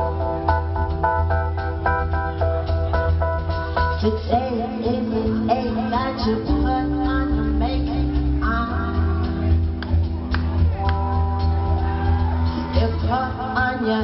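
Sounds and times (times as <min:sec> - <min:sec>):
bass guitar: 0:00.0 - 0:14.0
drums: 0:00.0 - 0:14.0
electric guitar: 0:00.0 - 0:14.0
keyboards: 0:00.0 - 0:14.0.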